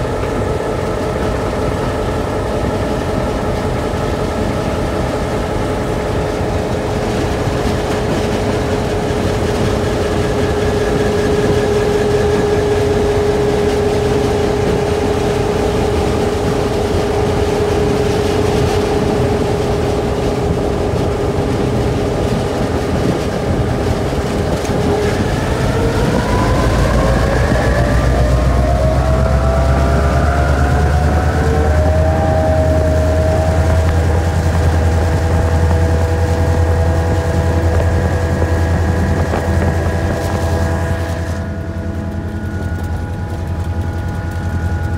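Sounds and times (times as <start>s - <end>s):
diesel locomotive engine revving: 0.0s - 44.9s.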